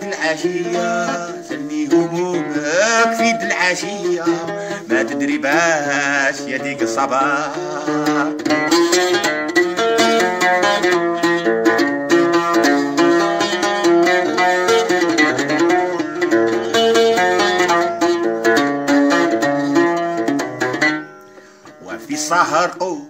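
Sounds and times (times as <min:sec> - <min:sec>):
plucked lute melody: 0:00.0 - 0:23.0.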